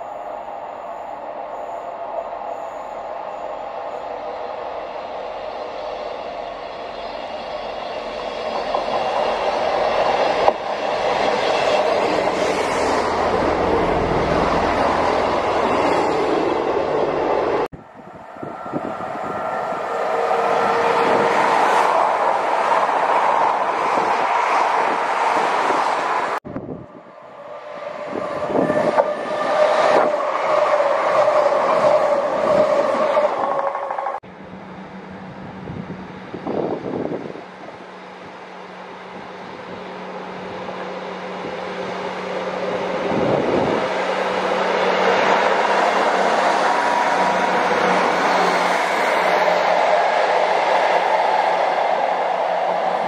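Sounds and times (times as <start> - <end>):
diesel train approaching: 0.0 - 53.0
train passing at speed: 0.0 - 53.0.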